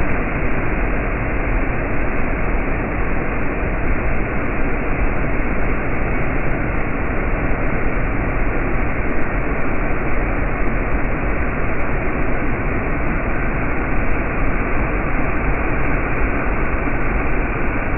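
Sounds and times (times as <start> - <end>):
rushing water: 0.0 - 17.9.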